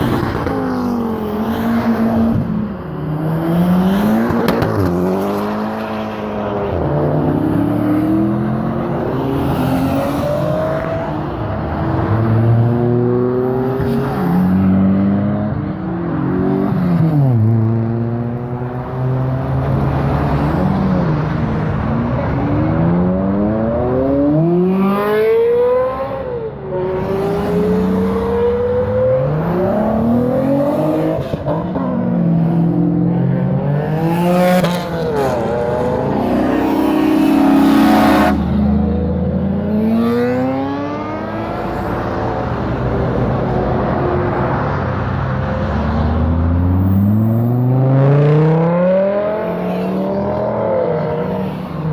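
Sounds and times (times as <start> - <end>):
sports car engines accelerating: 0.0 - 51.9.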